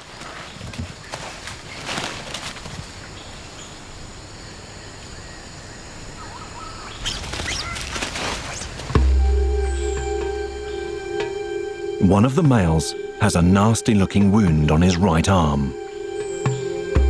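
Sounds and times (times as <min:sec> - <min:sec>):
bird calls: 0:00.0 - 0:17.0.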